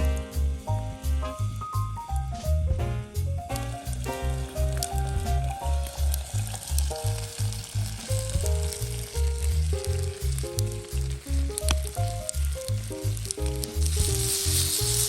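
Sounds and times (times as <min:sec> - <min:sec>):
background music with beat: 0:00.0 - 0:15.0
food sizzling and popping: 0:00.0 - 0:15.0.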